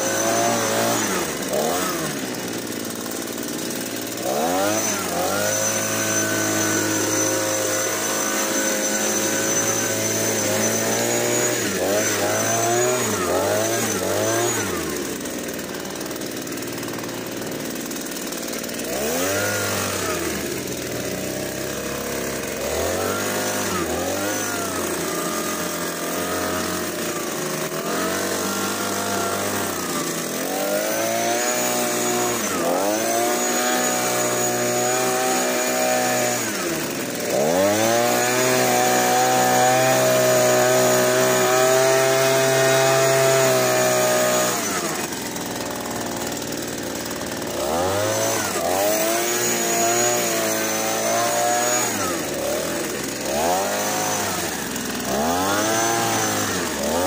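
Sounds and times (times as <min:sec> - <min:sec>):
leaf blower engine revving: 0:00.0 - 0:57.0.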